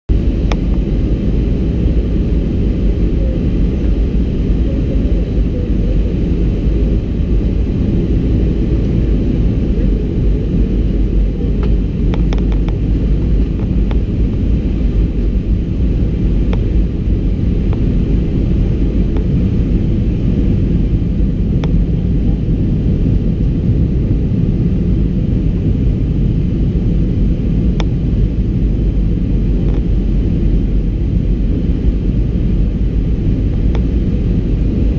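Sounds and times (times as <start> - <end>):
airplane engine rumble: 0.1 - 34.9.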